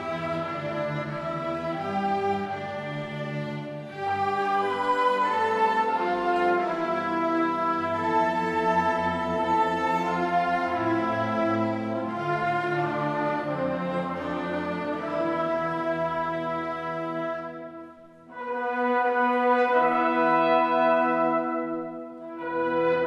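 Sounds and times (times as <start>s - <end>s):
wind and string ensemble playing: 0.0s - 23.0s.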